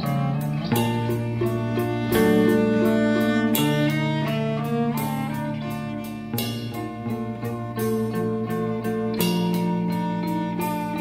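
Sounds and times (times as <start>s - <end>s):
string instruments music: 0.0s - 11.0s.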